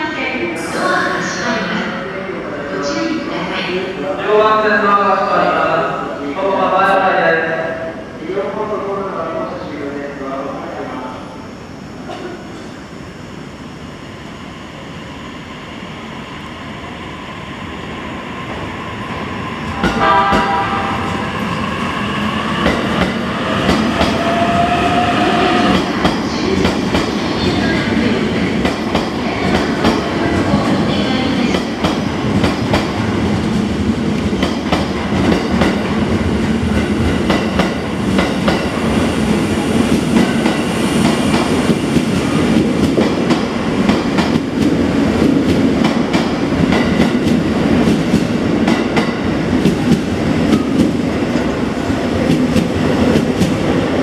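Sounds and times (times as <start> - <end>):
train rumbling along platform: 0.0 - 54.0.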